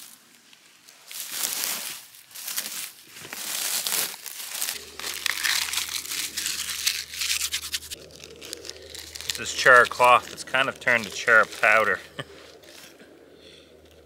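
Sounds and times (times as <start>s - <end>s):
bark crinkling and crackling: 2.6s - 14.0s.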